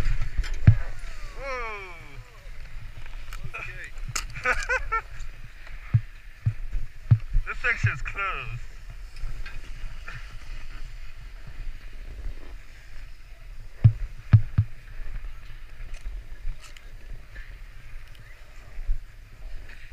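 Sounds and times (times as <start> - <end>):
skis sliding over packed snow: 0.0 - 19.9.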